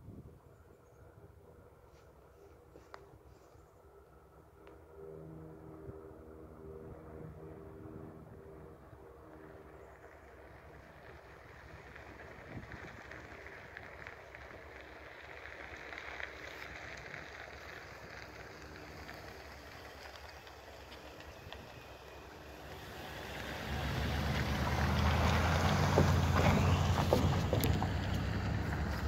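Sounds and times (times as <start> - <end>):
pickup truck driving past: 5.0 - 29.0.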